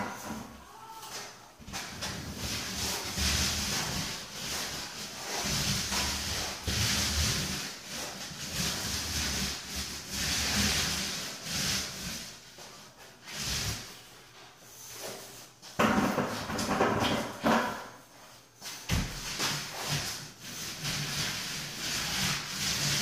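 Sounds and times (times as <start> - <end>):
paintbrush swishing against wall: 0.0 - 23.0.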